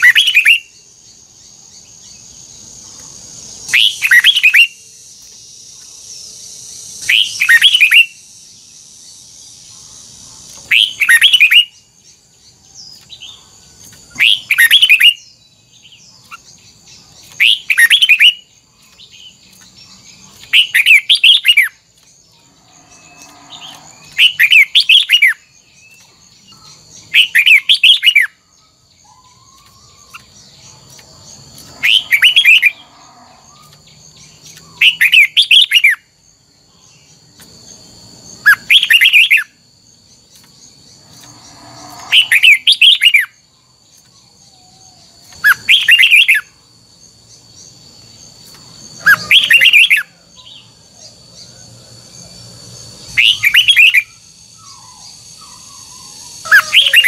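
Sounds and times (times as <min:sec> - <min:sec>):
bird singing: 0:00.0 - 0:57.0.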